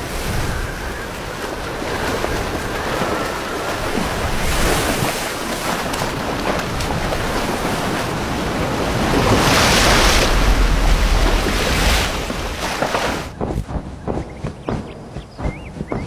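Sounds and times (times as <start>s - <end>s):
surf rushing: 0.0s - 13.9s
wind rumbling on microphone: 0.0s - 16.0s.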